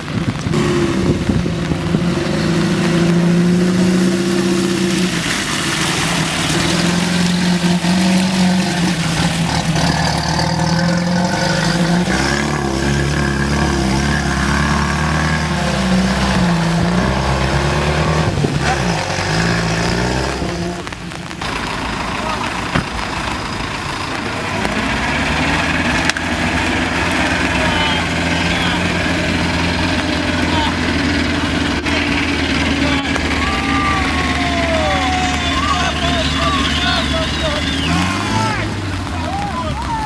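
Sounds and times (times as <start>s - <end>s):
car engine running under load: 0.0s - 40.0s
constant rushing noise: 0.0s - 40.0s.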